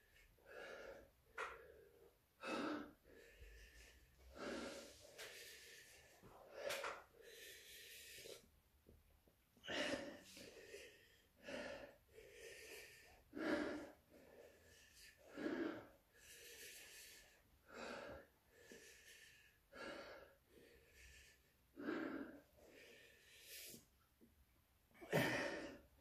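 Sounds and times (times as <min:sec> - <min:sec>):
man breathing hard: 0:00.0 - 0:08.5, 0:09.6 - 0:24.0, 0:25.0 - 0:26.0.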